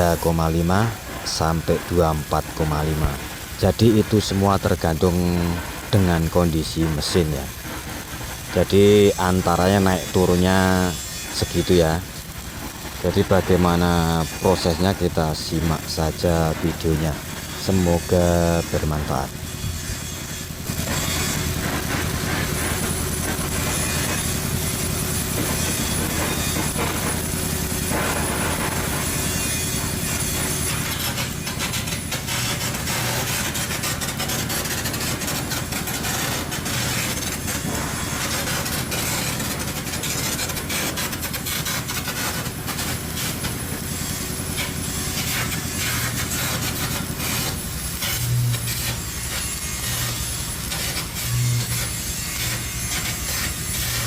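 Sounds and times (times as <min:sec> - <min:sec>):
welding arc crackling sizzle: 0:00.0 - 0:54.0.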